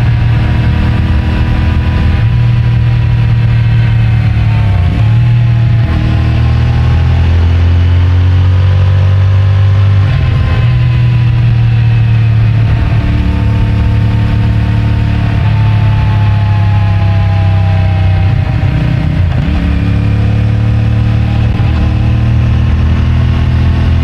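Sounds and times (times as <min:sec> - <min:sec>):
muffled motorcycle engine: 0:00.0 - 0:24.0.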